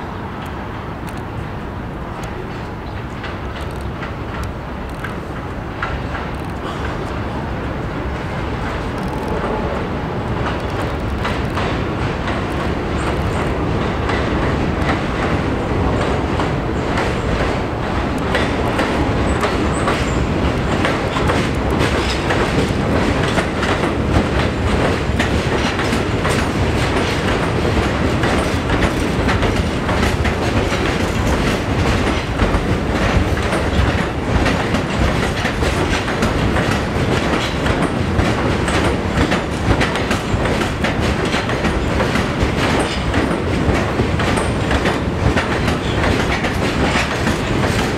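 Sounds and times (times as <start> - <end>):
train wheels and motors rumbling: 0.0 - 47.9
wheels clicking over rail joints: 0.3 - 9.6, 10.3 - 47.9.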